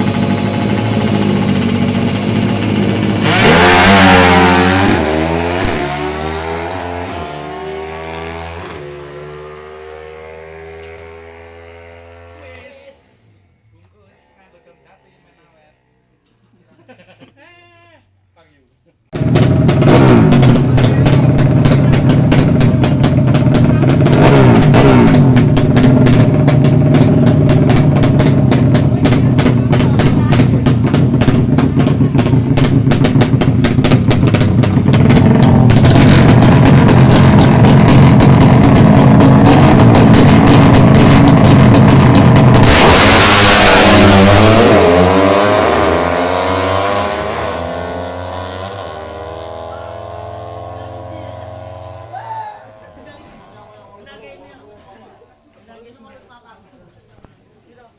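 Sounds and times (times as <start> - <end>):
motorcycle engine revving: 0.0 - 12.6, 19.2 - 53.8.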